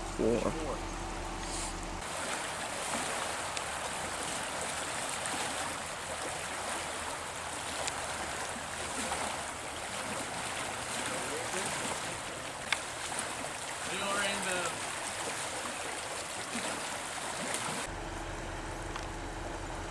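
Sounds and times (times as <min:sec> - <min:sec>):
stream water flowing: 0:00.0 - 0:17.9.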